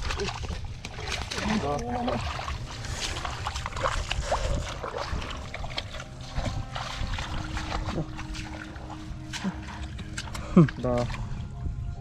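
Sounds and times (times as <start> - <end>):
water sloshing and splashing: 0.0 - 11.7
steady low rumble: 0.0 - 12.0.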